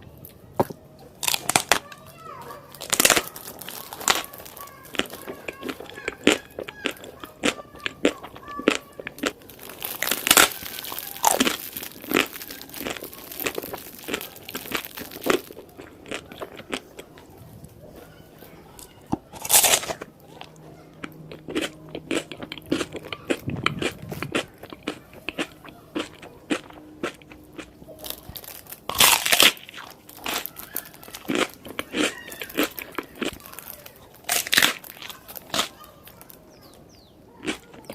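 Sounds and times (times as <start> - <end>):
chewing clicks: 0.2 - 17.4, 18.8 - 36.8, 37.4 - 37.9
crunchy food bites: 0.3 - 2.0, 2.6 - 17.3, 18.8 - 36.8, 37.4 - 37.9.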